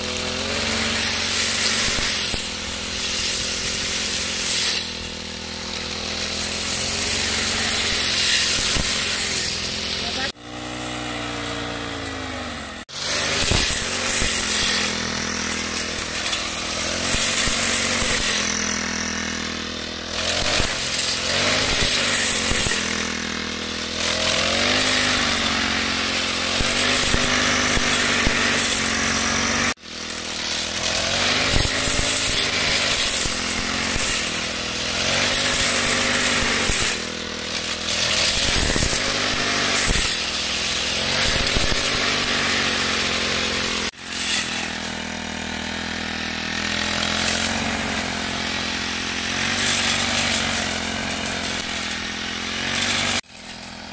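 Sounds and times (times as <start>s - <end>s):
brush cutter engine high revs: 0.0s - 53.9s.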